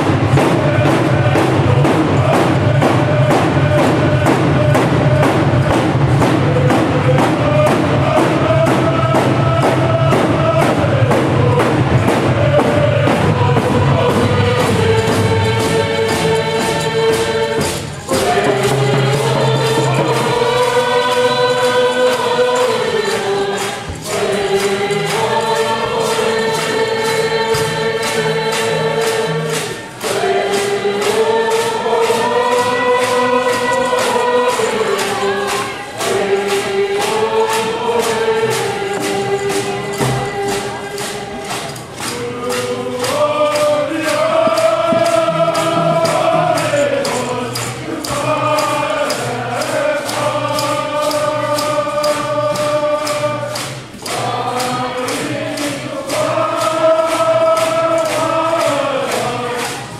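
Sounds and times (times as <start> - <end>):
hand drums beating: 0.0 - 59.9
many voices singing together: 0.0 - 59.9.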